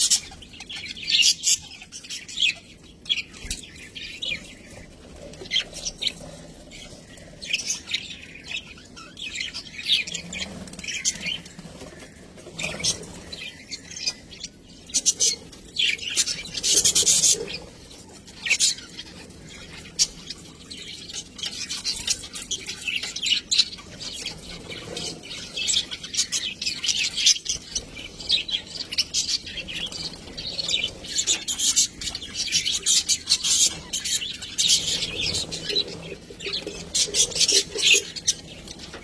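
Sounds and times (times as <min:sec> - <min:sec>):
budgerigars chirping: 0:00.0 - 0:39.0.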